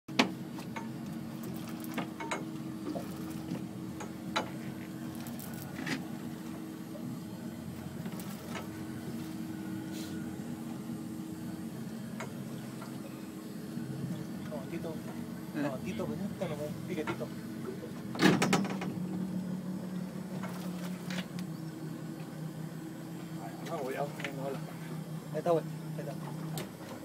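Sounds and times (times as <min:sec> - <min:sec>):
boat engine idling: 0:00.2 - 0:27.0.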